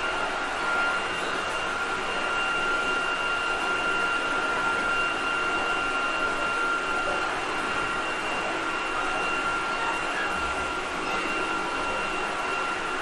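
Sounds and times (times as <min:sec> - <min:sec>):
electric train running with high whine: 0:00.0 - 0:13.0.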